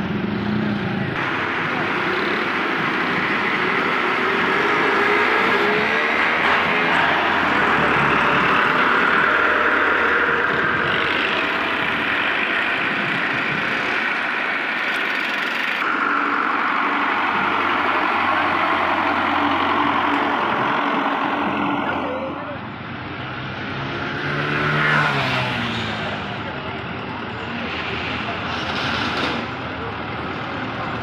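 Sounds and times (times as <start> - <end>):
tractor engines running: 0.0 - 31.0.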